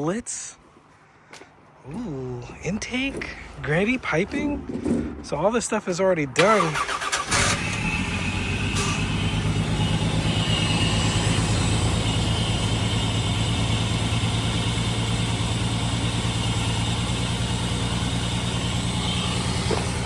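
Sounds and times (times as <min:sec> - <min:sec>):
car engine idling: 0:01.9 - 0:20.0.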